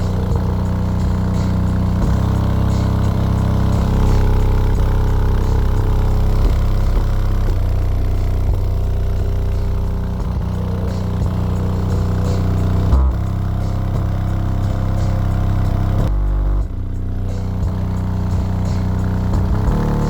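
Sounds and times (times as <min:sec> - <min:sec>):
loud bass music from subwoofers: 0:00.0 - 0:20.0.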